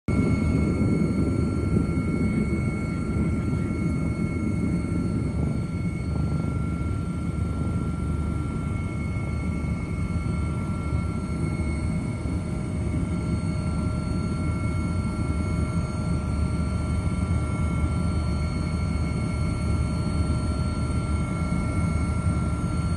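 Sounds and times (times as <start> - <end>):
helicopter rotor and engine rumble: 0.1 - 22.9
high turbine whine: 0.1 - 22.9.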